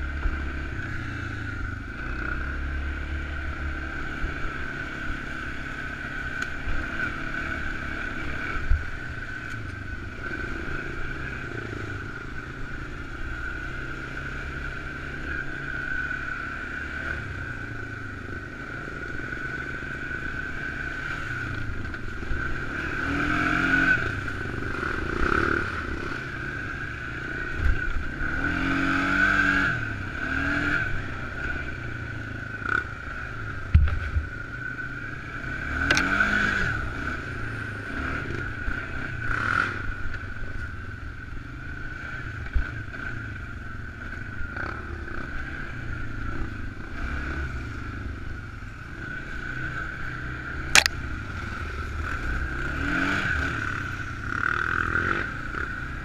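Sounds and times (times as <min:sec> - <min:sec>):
high engine whine: 0:00.0 - 0:56.0
quad engine running: 0:00.0 - 0:56.0.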